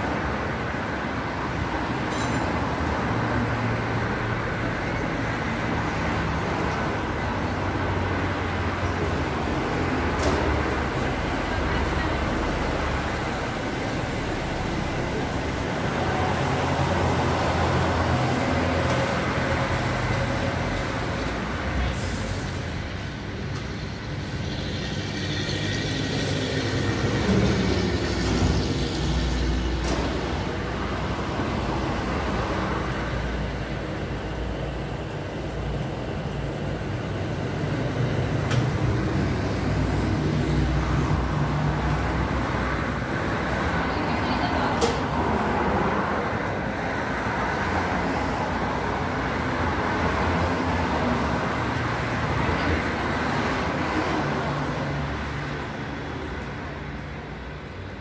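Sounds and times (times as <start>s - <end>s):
truck going by: 0.0s - 58.0s
vehicle engines rumbling past: 0.0s - 58.0s.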